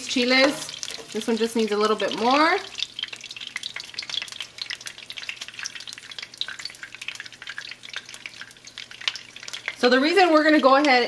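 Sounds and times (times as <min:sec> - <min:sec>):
pepper sizzling in hot oil: 0:00.0 - 0:11.0.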